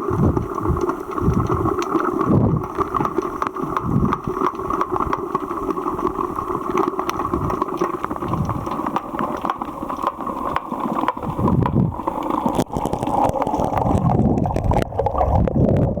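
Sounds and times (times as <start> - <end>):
muffled underwater rushing water: 0.0 - 16.0.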